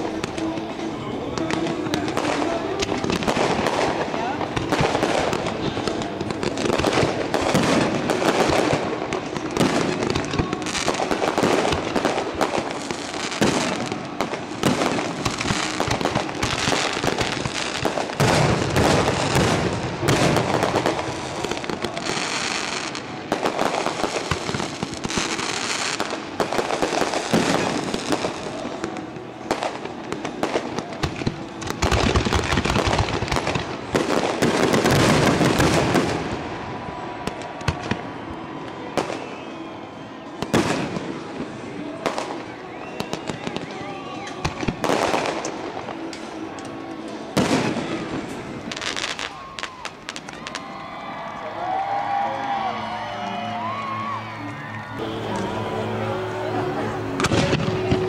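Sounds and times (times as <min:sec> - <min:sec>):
fireworks bangs: 0:00.0 - 0:51.0, 0:55.0 - 0:58.0.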